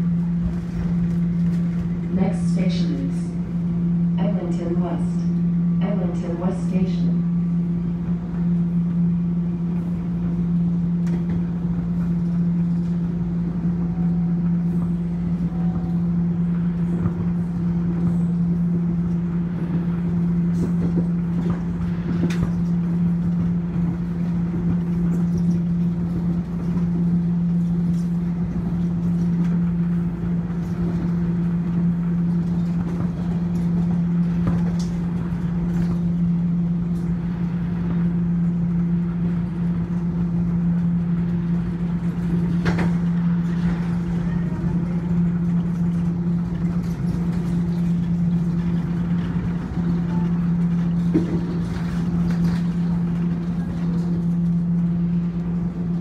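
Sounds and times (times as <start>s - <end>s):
subway train hum and rumble: 0.0s - 56.0s.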